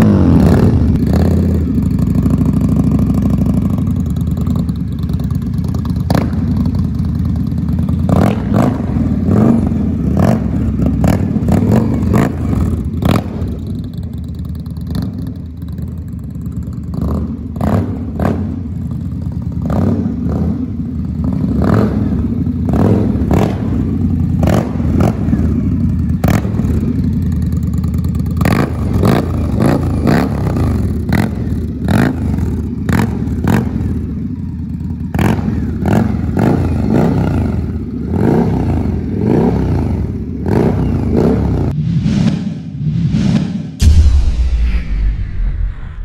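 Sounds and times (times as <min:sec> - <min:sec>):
motorcycle engine revving: 0:00.0 - 0:41.8.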